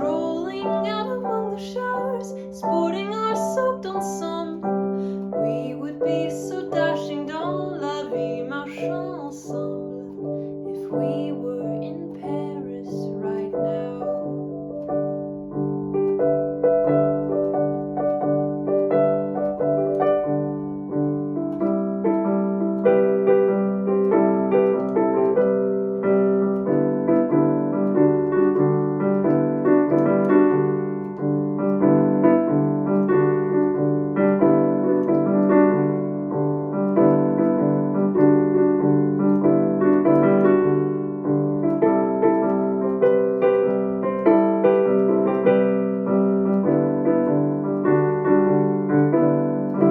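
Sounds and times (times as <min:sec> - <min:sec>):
piano playing: 0:00.0 - 0:49.9.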